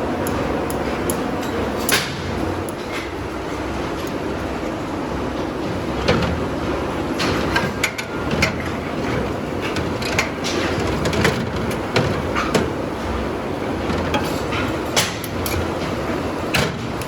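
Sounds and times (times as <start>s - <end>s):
factory machinery rumbling: 0.0s - 17.0s.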